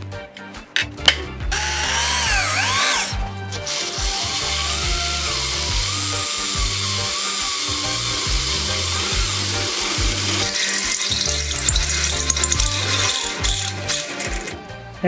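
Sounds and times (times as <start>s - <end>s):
background music with bass line: 0.0s - 15.0s
power drill boring through steel: 1.5s - 14.8s.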